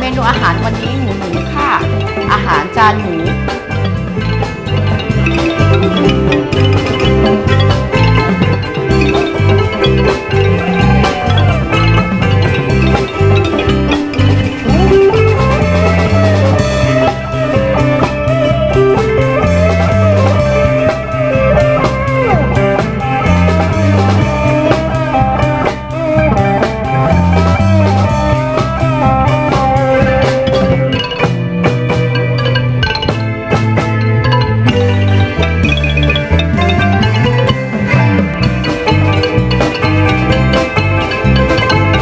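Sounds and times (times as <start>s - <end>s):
bass line: 0.0s - 42.0s
drums: 0.0s - 42.0s
guitar melody: 0.0s - 42.0s.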